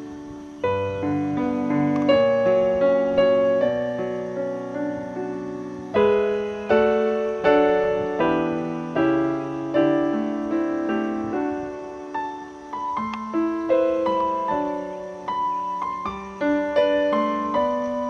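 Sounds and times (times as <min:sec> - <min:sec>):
slow solo piano: 0:00.0 - 0:18.0.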